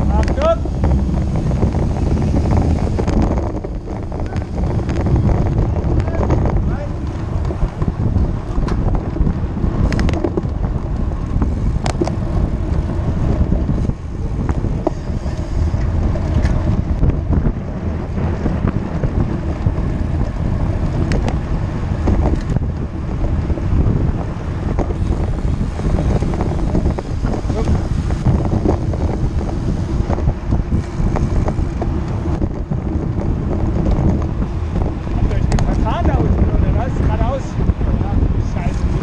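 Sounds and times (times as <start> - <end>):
bike ticks and rattles: 0.0 - 39.0
wind rumbling on microphone: 0.0 - 39.0.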